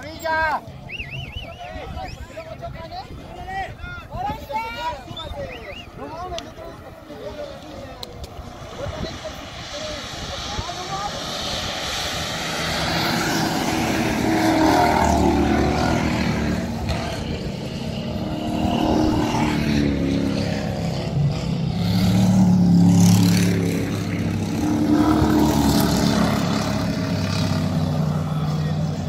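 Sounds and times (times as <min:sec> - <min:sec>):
race cars passing: 0:04.2 - 0:29.0.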